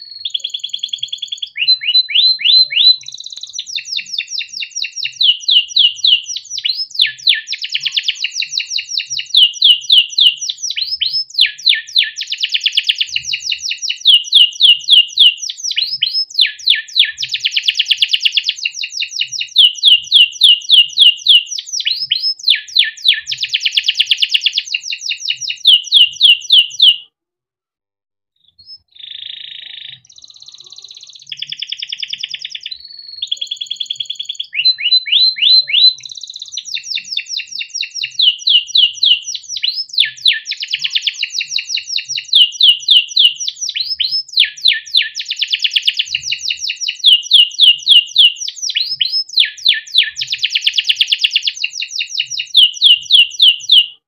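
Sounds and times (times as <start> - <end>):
canary singing trills: 0.0 - 27.0, 28.5 - 54.0.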